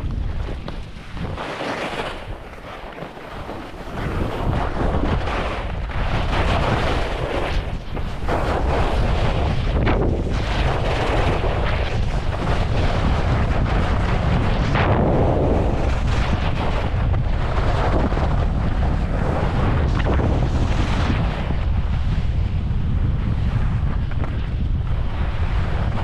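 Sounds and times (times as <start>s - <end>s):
skis scraping over snow: 0.0s - 26.0s
wind buffeting microphone: 0.0s - 26.0s.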